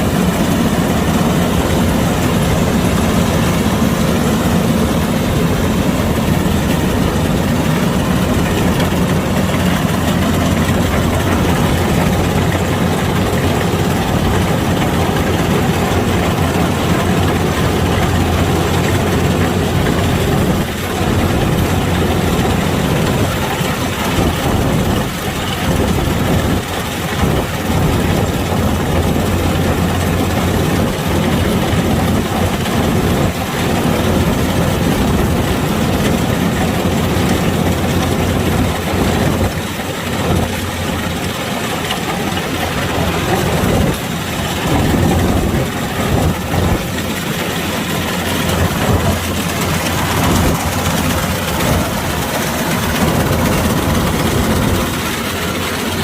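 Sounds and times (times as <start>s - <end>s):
combine harvester engine hum: 0.0s - 56.0s
mechanical clatter and rush: 0.0s - 56.0s.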